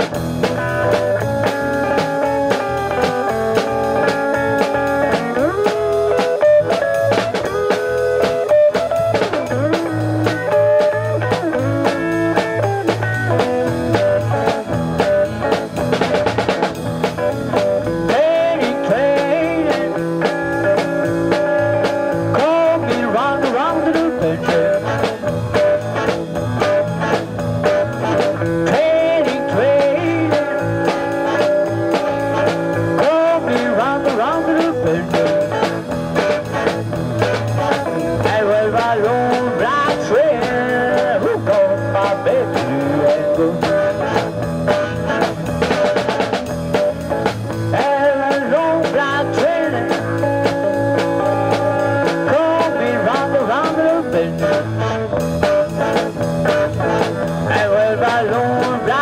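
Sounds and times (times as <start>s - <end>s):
live blues band playing: 0.0s - 59.0s.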